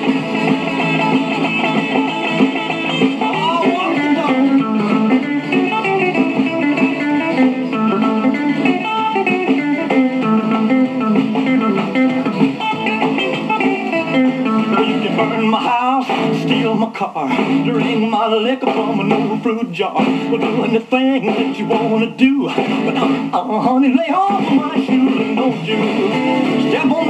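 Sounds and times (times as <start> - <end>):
electric guitar solo from record player: 0.0 - 27.0.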